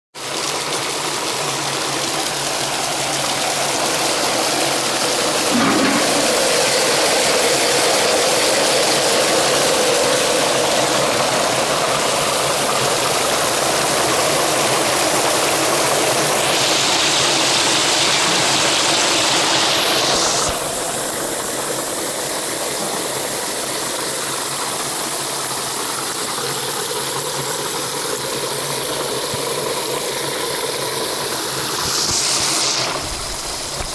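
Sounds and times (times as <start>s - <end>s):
water gushing and splashing: 0.3s - 33.9s.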